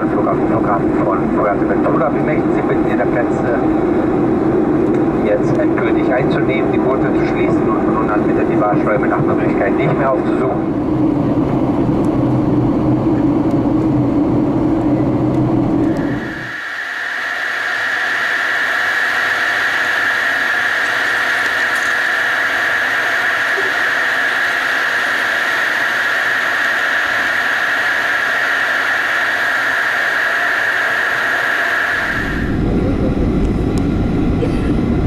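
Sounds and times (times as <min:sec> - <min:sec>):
jet engine whine in cabin: 0:00.0 - 0:35.0.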